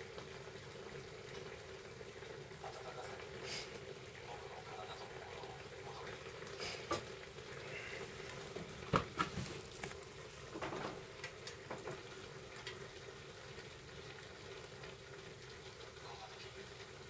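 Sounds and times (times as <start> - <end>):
food simmering in a pan: 0.0 - 17.0.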